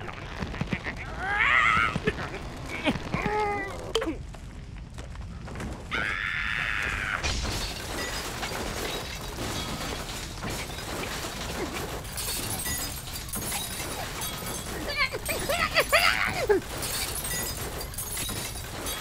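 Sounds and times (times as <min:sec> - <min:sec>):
ice cracking and shattering: 0:00.0 - 0:19.0.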